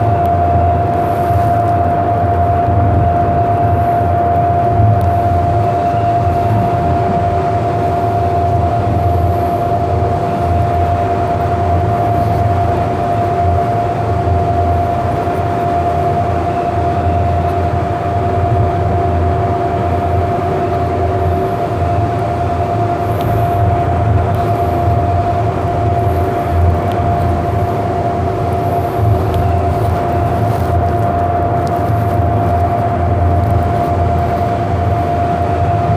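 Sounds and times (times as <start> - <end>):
constant high hum: 0.0 - 35.9
train low rumble: 0.0 - 35.9.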